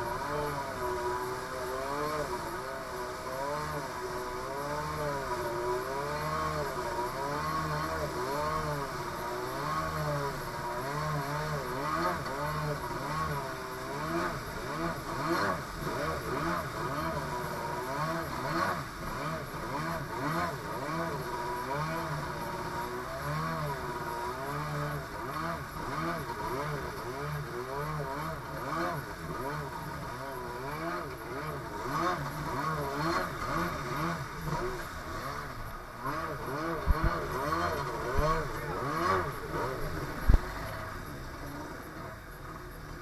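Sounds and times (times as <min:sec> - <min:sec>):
jet ski engine: 0:00.0 - 0:43.0.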